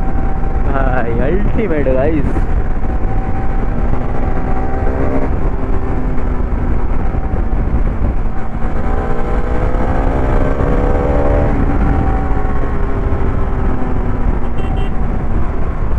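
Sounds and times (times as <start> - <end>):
wind rumble on microphone: 0.0 - 15.9
motorcycle engine running: 2.4 - 15.9.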